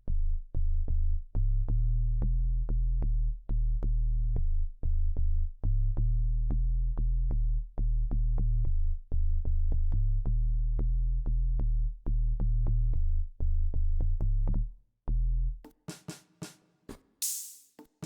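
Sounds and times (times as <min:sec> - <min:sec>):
deep bass notes: 0:00.0 - 0:15.6.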